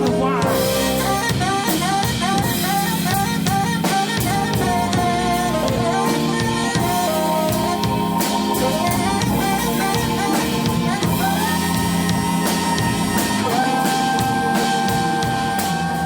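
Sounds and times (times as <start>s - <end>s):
drum hits: 0.0s - 16.0s
live band playing: 0.0s - 16.0s
sliding melody with held notes: 0.0s - 16.0s.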